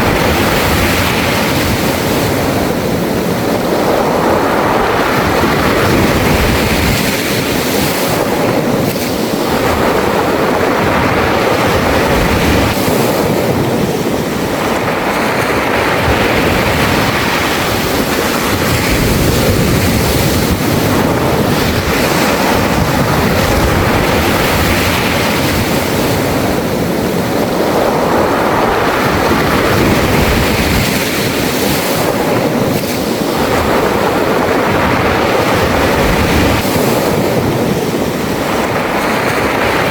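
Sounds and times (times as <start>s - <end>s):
waves washing over pebbles: 0.0s - 39.9s
wind buffeting microphone: 0.0s - 39.9s.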